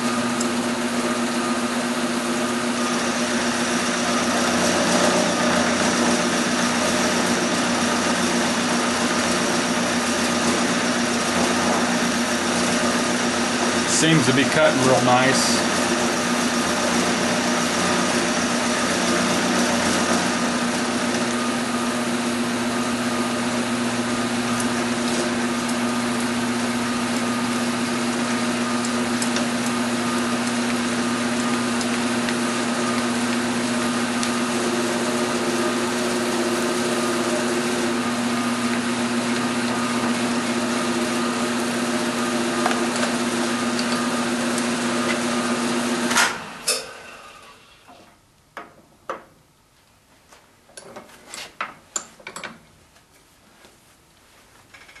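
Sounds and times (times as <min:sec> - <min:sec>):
milling machine cutting metal: 0:00.1 - 0:47.5.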